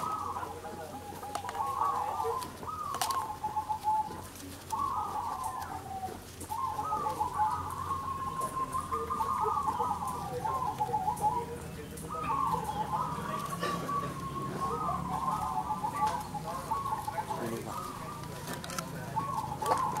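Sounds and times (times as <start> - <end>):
doves cooing: 0.0 - 20.0.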